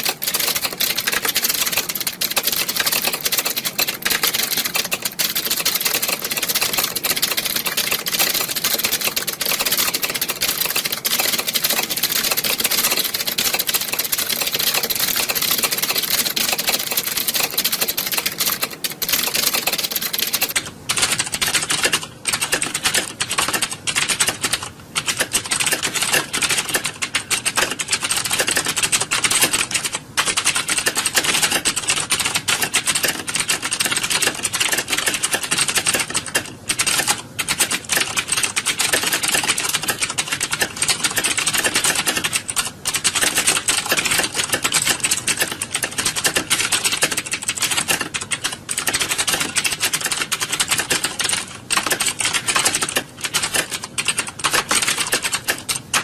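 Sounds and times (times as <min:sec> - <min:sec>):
keyboards typing clatter: 0:00.0 - 0:56.0.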